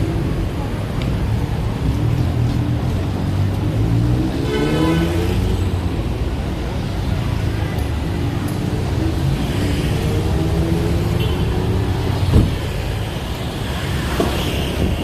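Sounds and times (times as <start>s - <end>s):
passing cars and buses rumble: 0.0s - 15.0s.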